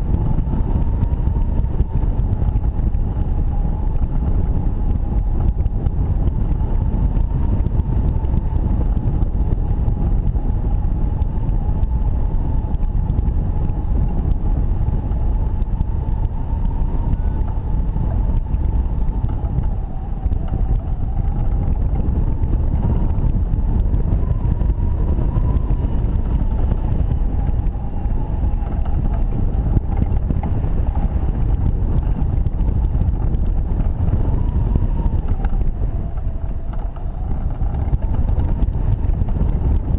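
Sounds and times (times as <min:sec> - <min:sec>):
strong wind buffeting microphone: 0:00.0 - 0:39.9.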